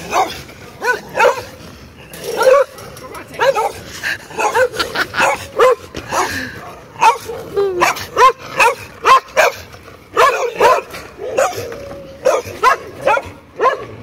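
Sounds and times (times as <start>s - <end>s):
dogs barking: 0.0s - 2.8s, 3.4s - 14.0s.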